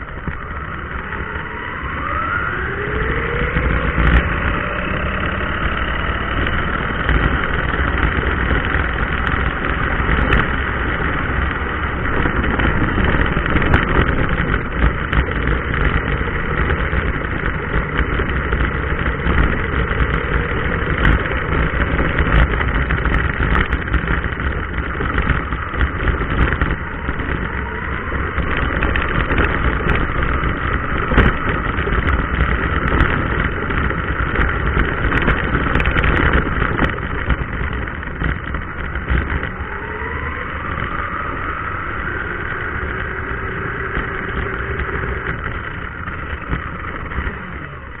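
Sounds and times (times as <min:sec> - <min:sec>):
electric motor whine: 0:00.0 - 0:48.0
toy car tyres rumbling: 0:00.0 - 0:48.0.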